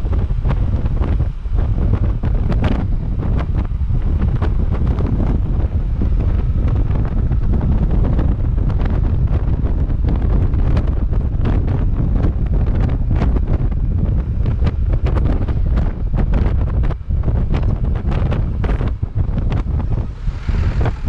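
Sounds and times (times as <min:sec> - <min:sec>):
low road rumble: 0:00.0 - 0:21.0
wind buffeting microphone: 0:00.0 - 0:21.0.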